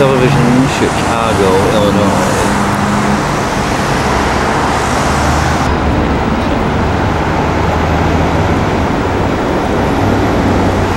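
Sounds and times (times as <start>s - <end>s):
road traffic noise: 0.0s - 10.9s
vehicle engines humming: 0.0s - 10.9s.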